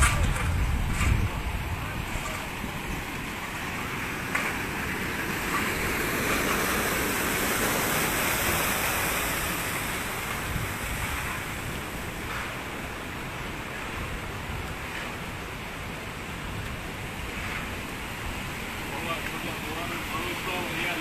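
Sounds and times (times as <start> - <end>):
floodwater rushing down a street: 0.0 - 21.0.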